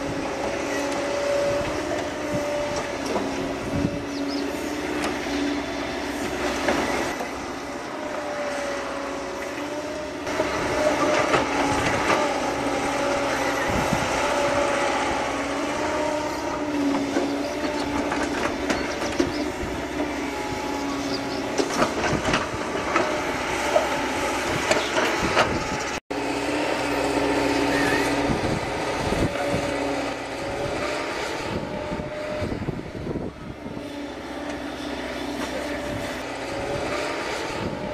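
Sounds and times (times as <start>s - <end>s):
excavator diesel engine: 0.0s - 37.9s
hydraulic whine: 0.0s - 37.9s.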